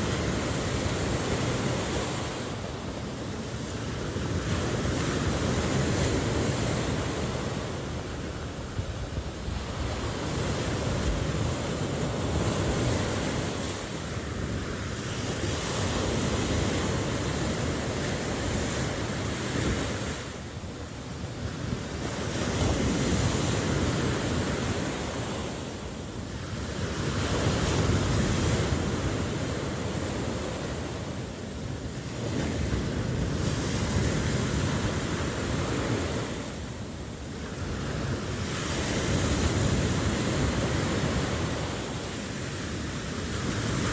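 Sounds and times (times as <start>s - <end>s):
waves breaking on shore: 0.0s - 43.9s
wind noise: 0.0s - 43.9s.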